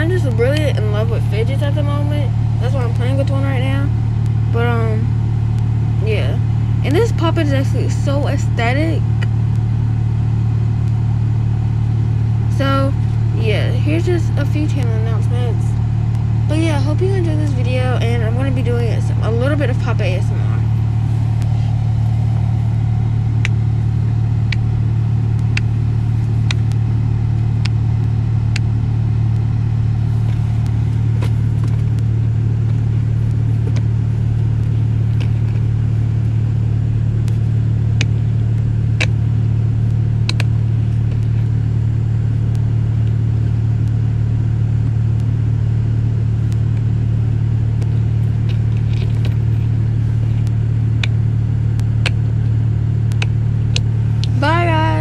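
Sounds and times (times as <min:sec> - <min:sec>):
low hum of car air: 0:00.0 - 0:55.0.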